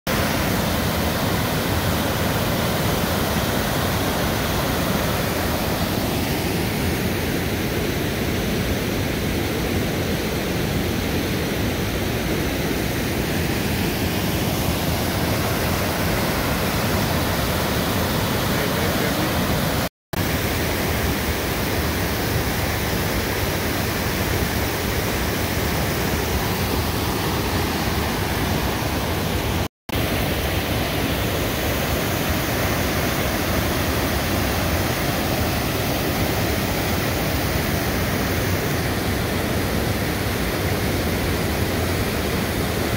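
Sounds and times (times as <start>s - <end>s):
water rushing over rocks: 0.1s - 42.9s.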